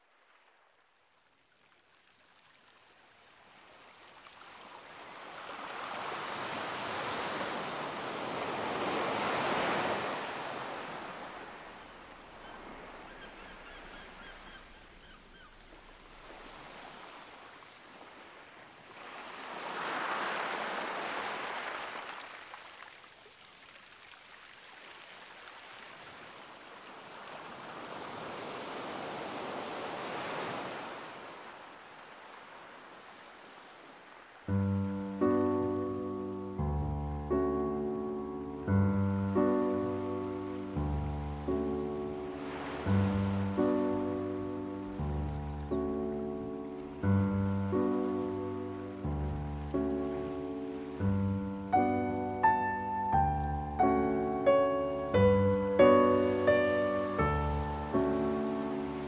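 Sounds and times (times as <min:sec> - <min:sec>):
sea surf washing onto shore: 0:03.3 - 0:34.6, 0:39.4 - 0:45.2, 0:45.8 - 0:59.0.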